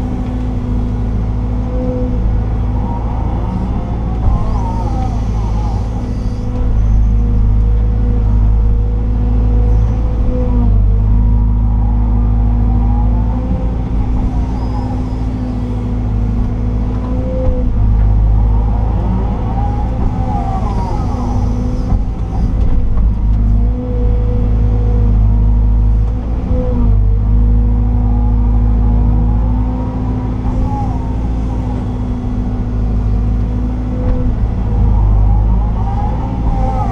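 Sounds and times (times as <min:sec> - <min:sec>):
diesel engine running under load: 0:00.0 - 0:36.9
hydraulics whining: 0:00.0 - 0:36.9.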